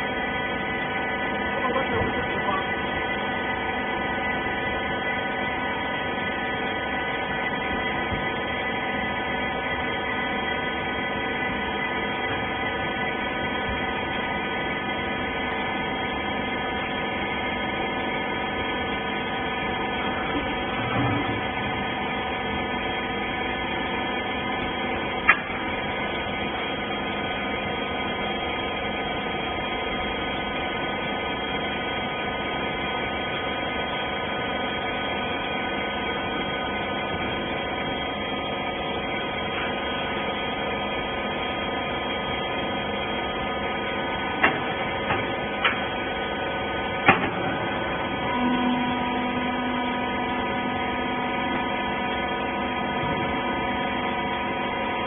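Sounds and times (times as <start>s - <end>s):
baler machine motor hum: 0.0s - 55.0s.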